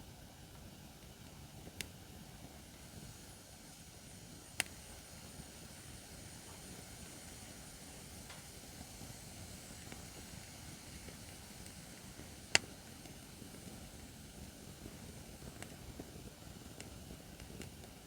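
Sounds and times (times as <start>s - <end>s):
campfire rumbling and crackling: 0.0s - 18.0s.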